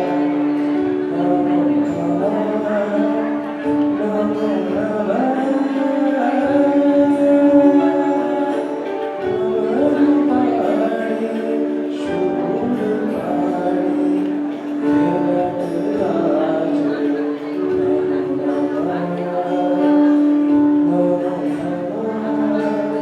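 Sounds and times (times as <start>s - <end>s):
held instrumental notes: 0.0s - 23.0s.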